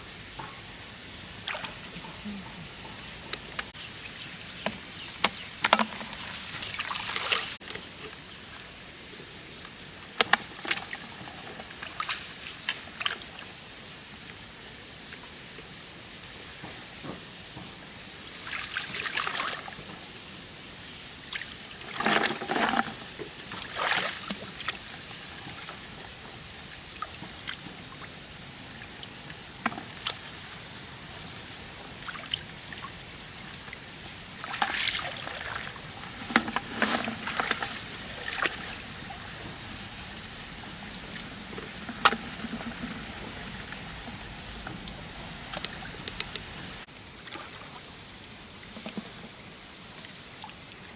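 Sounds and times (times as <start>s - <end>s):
background hiss: 0.0s - 50.9s
water splashing and trickling: 0.0s - 50.9s.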